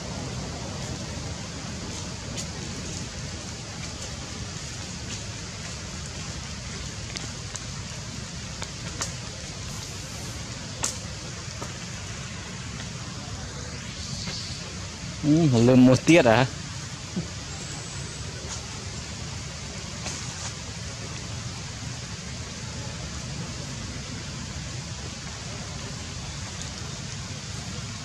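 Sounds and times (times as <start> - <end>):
light rain falling: 0.0 - 28.0.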